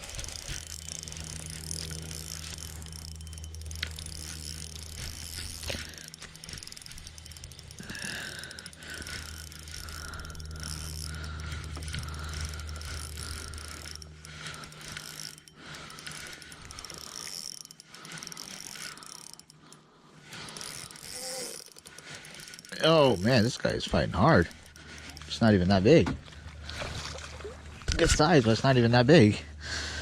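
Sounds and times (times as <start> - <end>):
fishing reel whirring: 0.0 - 28.3
low steady hum: 0.0 - 30.0.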